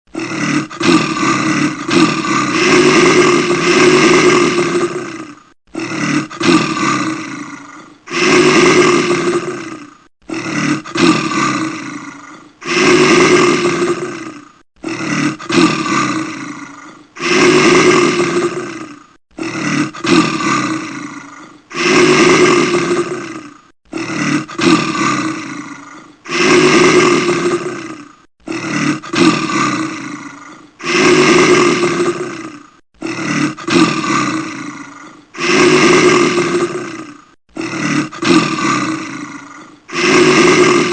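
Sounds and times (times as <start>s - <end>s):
person snoring loudly: 0.1s - 40.9s.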